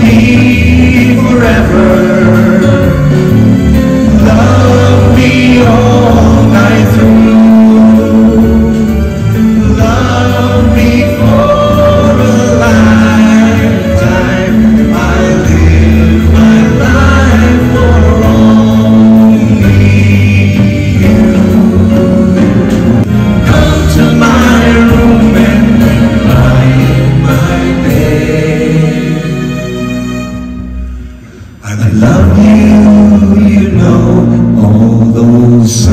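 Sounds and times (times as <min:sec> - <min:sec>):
man singing into microphone: 0:00.0 - 0:22.6, 0:23.4 - 0:29.3, 0:31.6 - 0:35.9
live band playing: 0:00.0 - 0:35.9.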